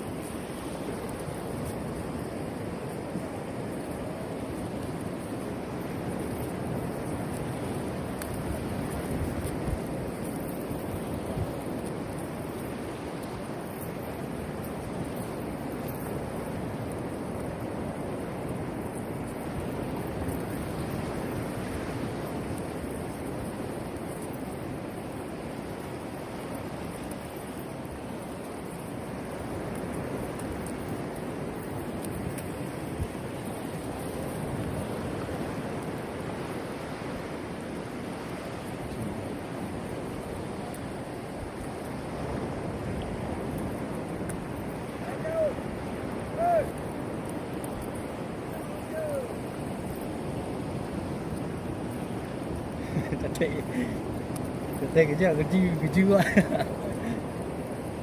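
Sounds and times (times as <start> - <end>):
sea surf rushing: 0.0 - 58.0
wind: 0.0 - 58.0.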